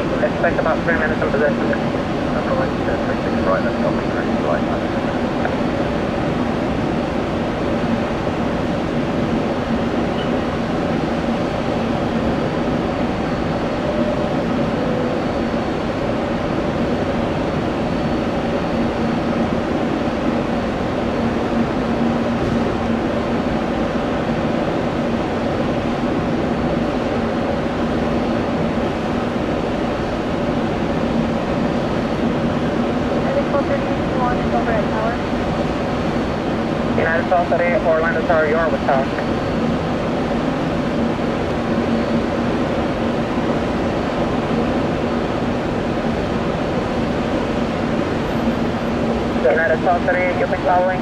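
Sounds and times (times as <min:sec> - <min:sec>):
faint high whine: 0:00.0 - 0:51.0
jet engines running: 0:00.0 - 0:51.0.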